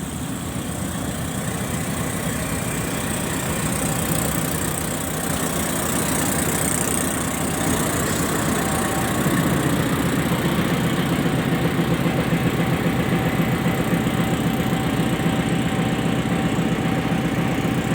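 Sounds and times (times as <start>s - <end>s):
diesel locomotive idling: 0.0s - 17.9s
engine knocking: 0.0s - 17.9s.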